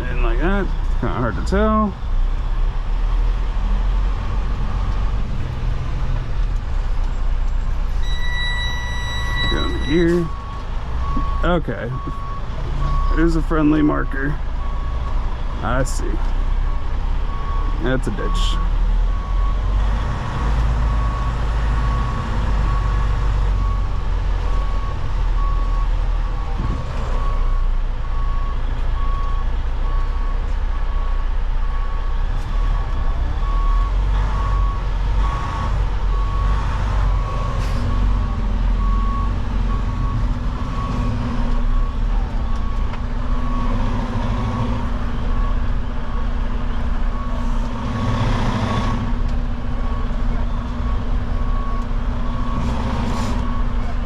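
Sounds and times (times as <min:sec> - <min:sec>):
diesel engine rumble: 0:00.0 - 0:54.0
truck backup alarm beeping: 0:04.1 - 0:05.3, 0:07.8 - 0:54.0.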